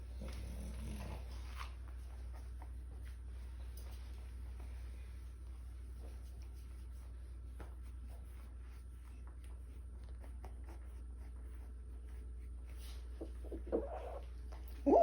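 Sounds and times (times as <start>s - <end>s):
faint scratching and rustling: 0.0s - 15.0s
steady low hum: 0.0s - 15.0s.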